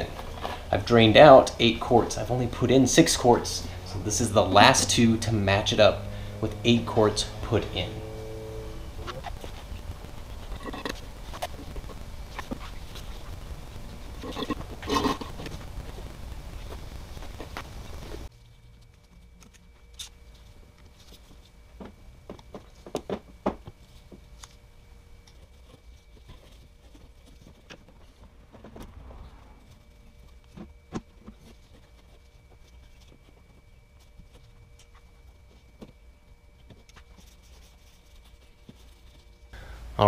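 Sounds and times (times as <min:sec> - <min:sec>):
faint steady hum: 0:00.0 - 0:40.0
steady running noise: 0:00.0 - 0:40.0.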